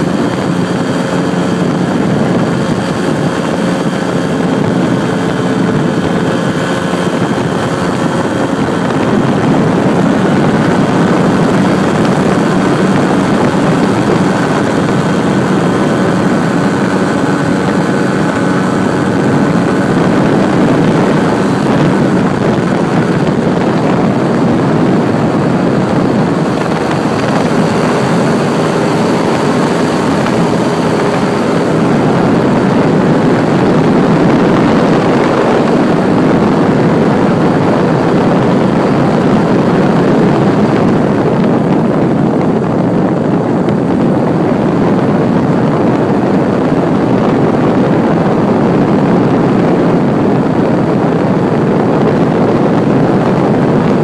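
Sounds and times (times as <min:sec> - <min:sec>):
aircraft engine and propeller noise: 0:00.0 - 0:54.0.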